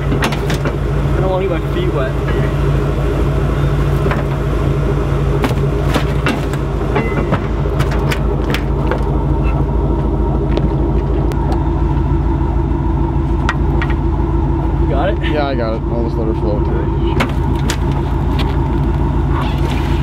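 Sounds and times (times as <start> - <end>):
pickup truck engine idling: 0.0 - 20.0.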